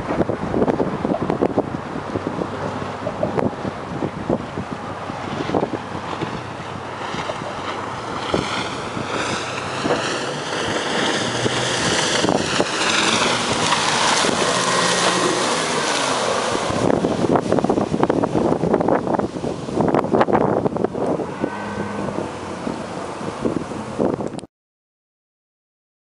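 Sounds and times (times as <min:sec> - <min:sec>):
outboard motor running: 0:00.0 - 0:24.4
water rushing against hull: 0:00.0 - 0:24.5
wind buffeting microphone: 0:00.0 - 0:24.5.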